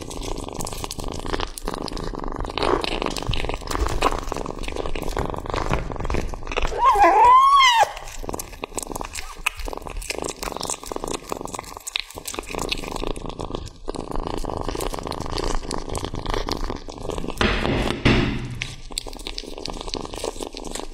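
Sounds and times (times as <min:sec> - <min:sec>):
kitten chewing meat: 0:00.0 - 0:20.9.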